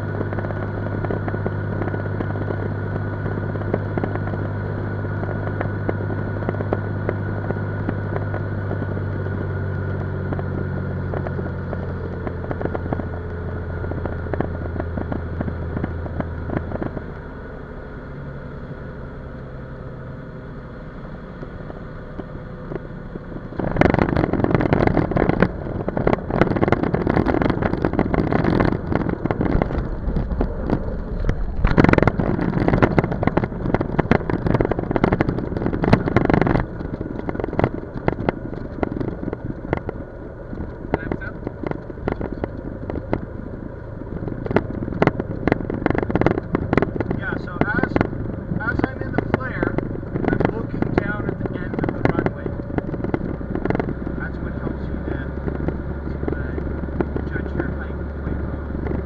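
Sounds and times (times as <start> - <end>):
airplane piston engine running: 0.0 - 59.0
rough rumble of landing wheels: 0.0 - 59.0.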